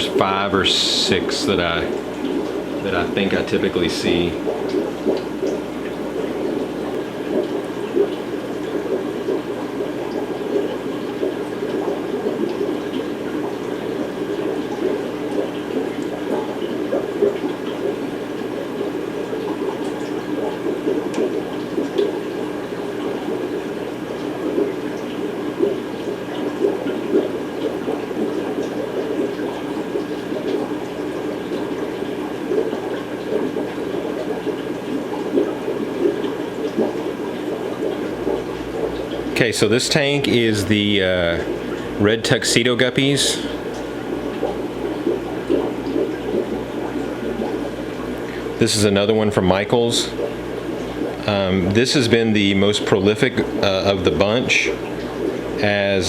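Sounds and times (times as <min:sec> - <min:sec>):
aquarium water bubbling: 0:00.0 - 0:56.0
faint steady hum: 0:00.0 - 0:56.0.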